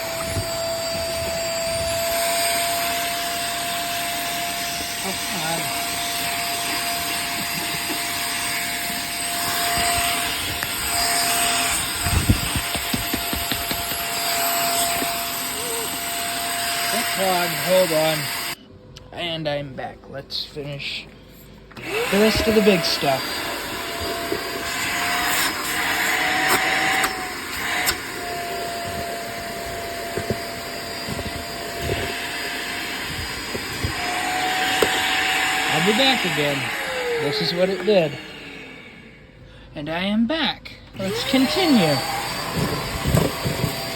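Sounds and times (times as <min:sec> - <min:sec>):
vacuum motor whine: 0:00.0 - 0:18.6, 0:21.8 - 0:39.4, 0:41.0 - 0:43.9.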